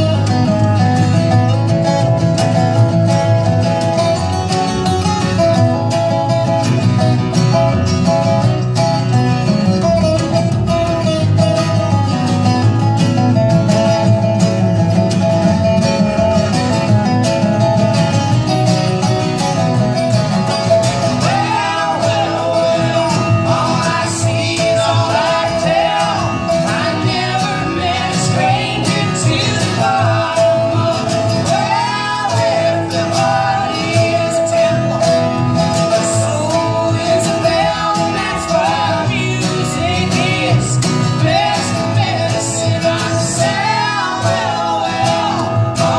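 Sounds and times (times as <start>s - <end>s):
acoustic guitar strumming: 0.0s - 45.9s
bass line: 0.0s - 45.9s.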